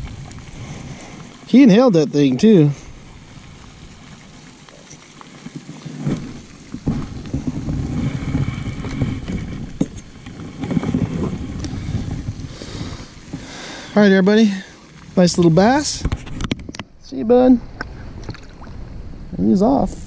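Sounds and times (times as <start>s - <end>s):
wind buffeting microphone: 0.0s - 4.6s, 5.4s - 20.0s.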